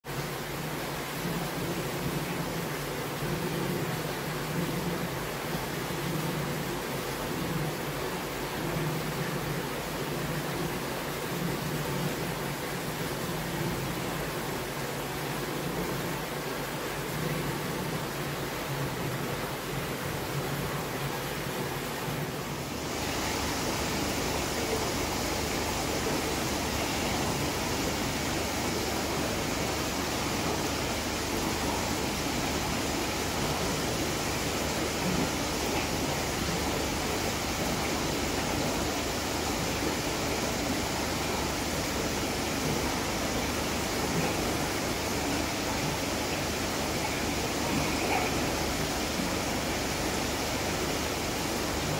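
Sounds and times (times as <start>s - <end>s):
aquarium water bubbling: 0.0s - 51.9s.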